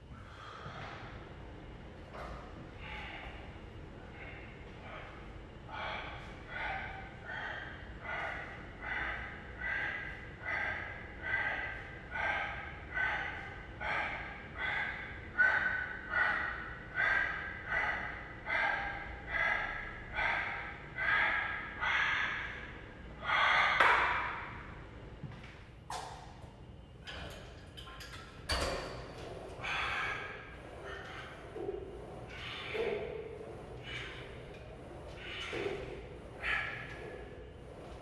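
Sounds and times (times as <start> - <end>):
man breathing hard: 0.0 - 1.5, 2.2 - 23.8, 29.0 - 38.0.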